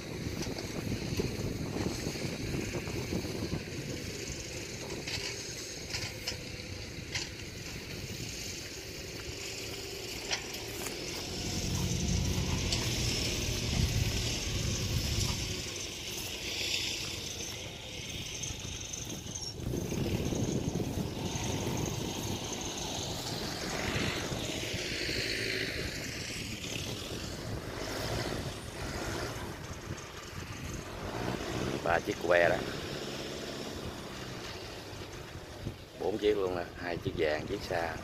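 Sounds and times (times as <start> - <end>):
excavator engines droning: 0.0 - 38.0
low rumbling: 0.2 - 36.2.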